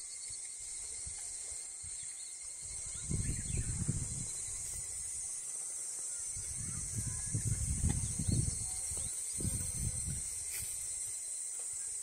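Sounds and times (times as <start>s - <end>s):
cicadas chorus: 0.0s - 12.0s.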